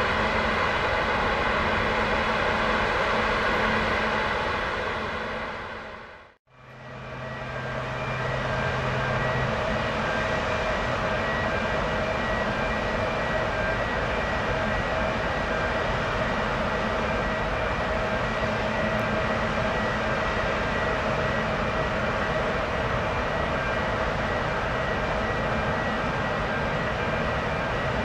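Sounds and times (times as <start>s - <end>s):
ship machinery rumble and hum: 0.0s - 28.0s.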